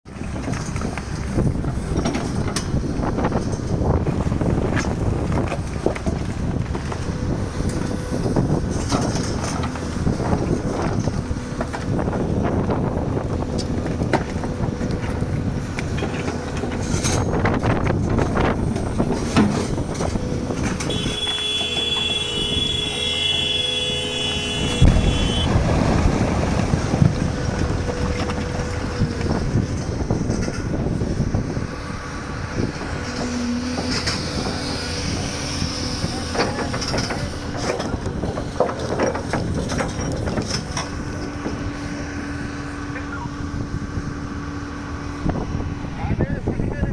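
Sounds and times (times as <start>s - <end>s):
excavator diesel engine rumble: 0.1s - 46.9s.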